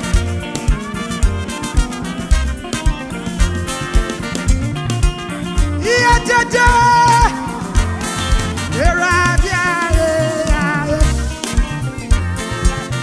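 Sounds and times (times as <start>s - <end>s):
live gospel band music: 0.0s - 13.0s.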